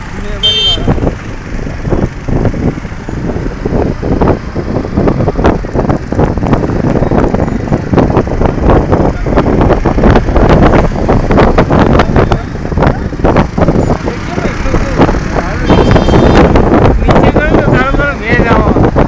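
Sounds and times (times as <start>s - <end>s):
road traffic with motorbikes: 0.0s - 19.0s
wind buffeting microphone: 0.0s - 19.0s.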